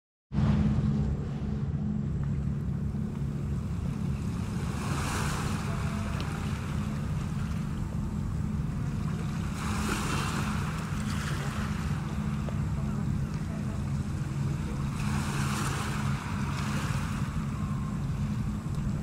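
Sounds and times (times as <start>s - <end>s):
wind on microphone: 0.3s - 19.0s.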